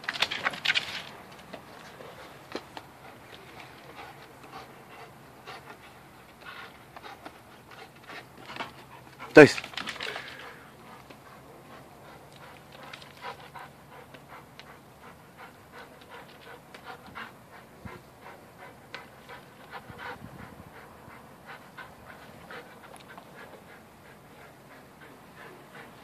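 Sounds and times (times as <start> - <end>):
dog panting: 0.1 - 26.0.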